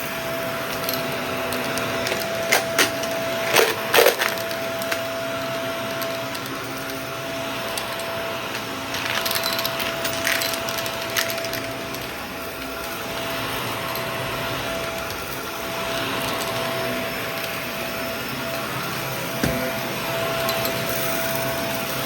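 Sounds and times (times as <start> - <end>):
vacuum cleaner whining: 0.0 - 22.0.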